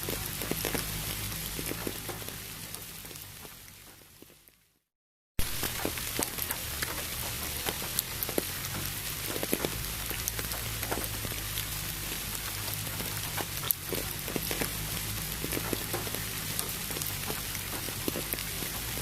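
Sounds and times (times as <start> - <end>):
rain pattering: 0.0 - 4.7, 5.4 - 19.0.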